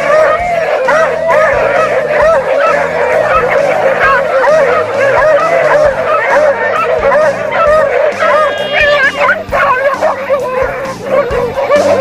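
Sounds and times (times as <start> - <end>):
background music with bass line: 0.0 - 12.0
beagles baying: 0.0 - 12.0.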